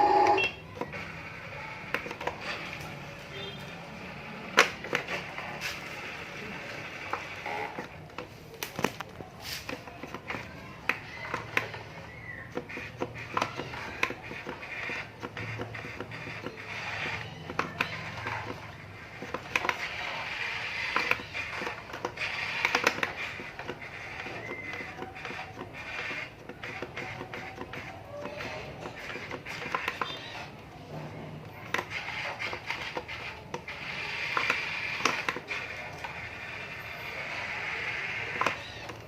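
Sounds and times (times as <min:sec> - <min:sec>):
model excavator motor hum: 0:00.0 - 0:39.0.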